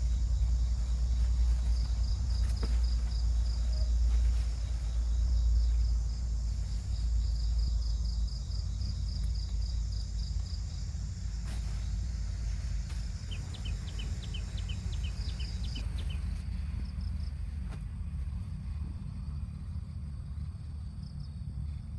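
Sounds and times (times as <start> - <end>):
crickets chirping: 0.0 - 21.9
steady low rumble: 0.0 - 21.9.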